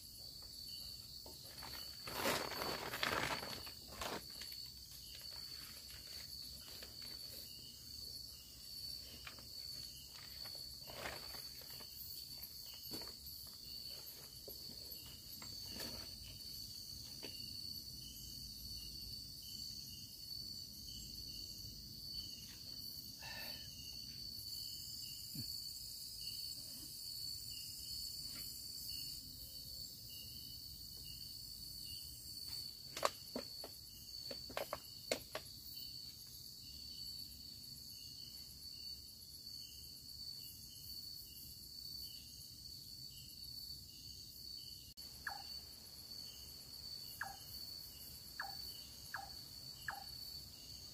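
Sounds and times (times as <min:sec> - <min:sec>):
cricket drone: 0:00.0 - 0:50.9
insect chirp: 0:00.0 - 0:50.9.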